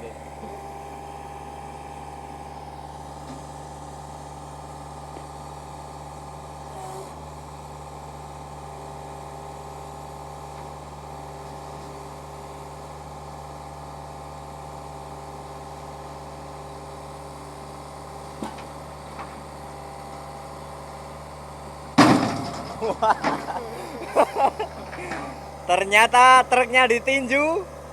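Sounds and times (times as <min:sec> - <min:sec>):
engine idling: 0:00.0 - 0:27.9.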